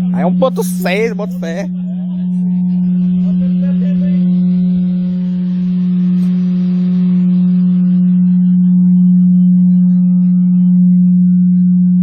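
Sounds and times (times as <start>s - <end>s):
loud low test tone: 0.0s - 12.0s.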